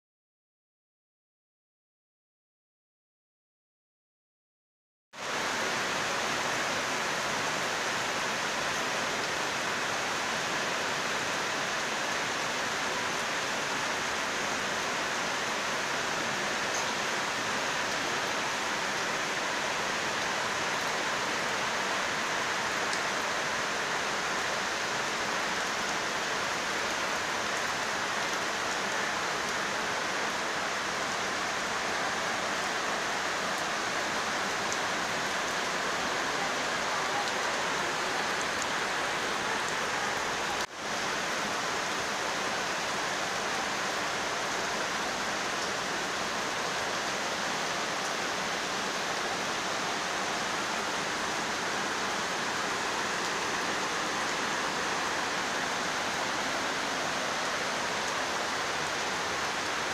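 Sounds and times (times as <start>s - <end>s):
heavy rain pouring: 5.2s - 59.9s.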